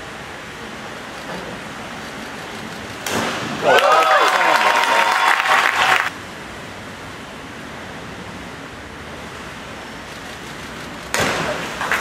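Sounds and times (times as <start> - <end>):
rushing indoor pool hall noise: 0.0 - 12.0.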